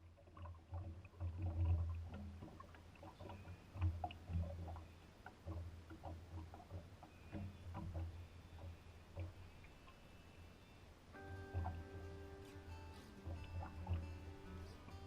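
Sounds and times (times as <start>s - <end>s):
knocks and clicks on boat: 0.0s - 10.0s, 11.2s - 15.0s
low boat rumbles: 0.0s - 15.0s.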